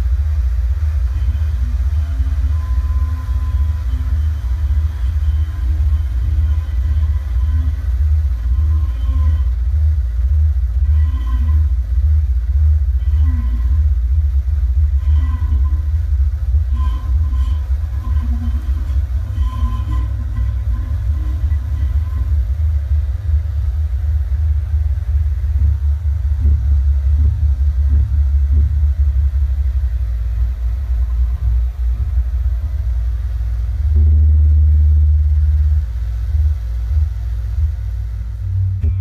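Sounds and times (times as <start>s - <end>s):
distorted electronic noise music: 0.0s - 39.0s.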